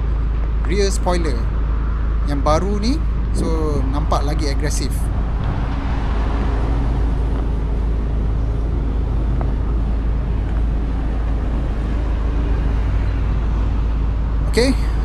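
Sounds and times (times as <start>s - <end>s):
engine hum: 0.0s - 15.0s
road traffic rumble: 0.0s - 15.0s.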